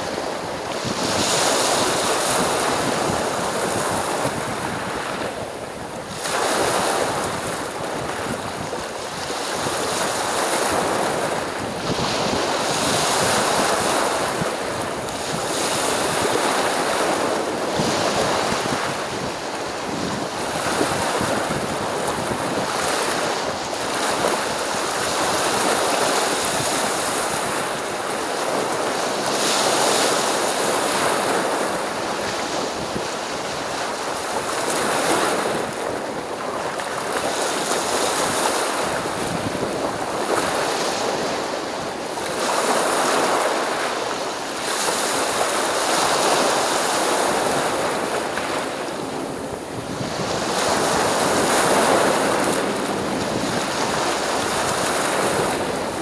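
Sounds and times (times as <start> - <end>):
sea surf washing on shore: 0.0 - 56.0
waves breaking: 0.0 - 56.0.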